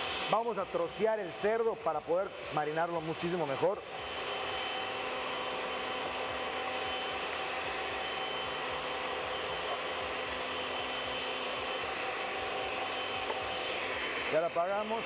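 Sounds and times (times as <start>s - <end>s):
blender whirring: 0.0s - 15.0s.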